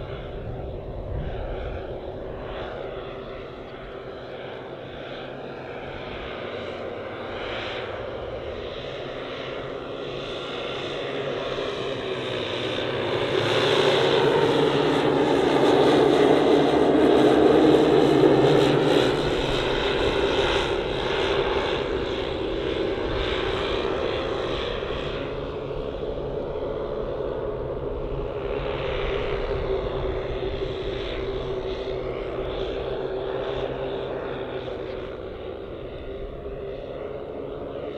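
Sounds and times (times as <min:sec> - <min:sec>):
model aircraft engines droning: 0:00.0 - 0:37.9.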